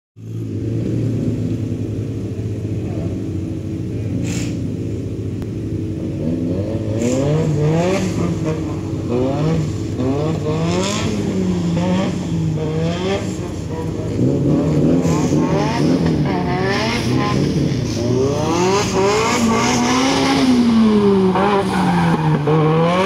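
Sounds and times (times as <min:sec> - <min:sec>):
car engine idling and revving: 0:00.2 - 0:23.0.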